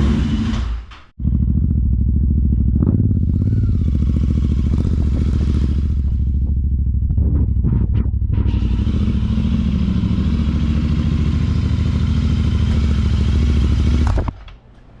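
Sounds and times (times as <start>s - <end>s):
motorcycle engines running: 0.0s - 14.4s.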